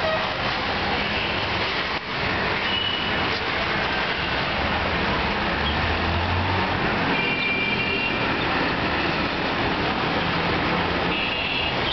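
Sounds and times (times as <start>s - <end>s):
road traffic noise: 0.0s - 11.9s.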